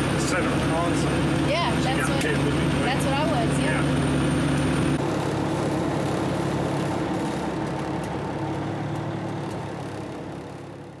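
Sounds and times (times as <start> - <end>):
diesel engine rumble in cab: 0.0 - 11.0
road noise: 0.0 - 11.0.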